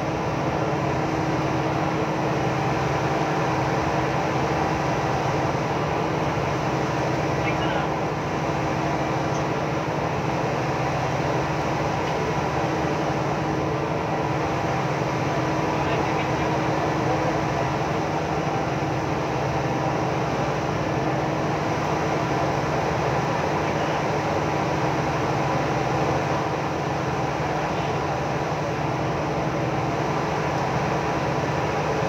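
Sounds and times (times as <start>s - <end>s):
boat machinery drone: 0.0s - 32.0s.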